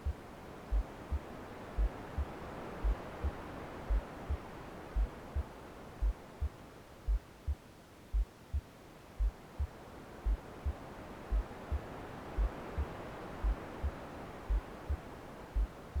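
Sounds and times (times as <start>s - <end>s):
slow deep heartbeat: 0.0s - 16.0s
white noise hiss: 0.0s - 16.0s.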